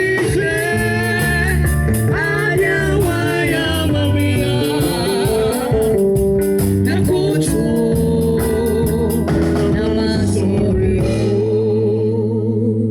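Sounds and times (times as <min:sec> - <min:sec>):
live band music with organ: 0:00.0 - 0:12.5
person singing: 0:00.0 - 0:12.9.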